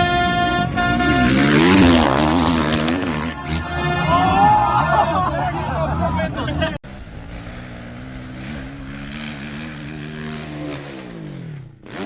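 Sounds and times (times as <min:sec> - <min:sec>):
motocross bike engine revving: 0:00.2 - 0:05.0, 0:06.9 - 0:12.0.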